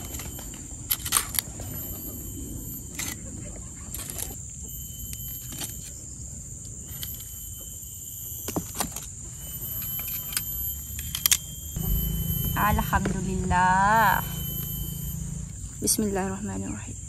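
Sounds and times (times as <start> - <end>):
steady high-pitched whine: 0.0 - 17.0.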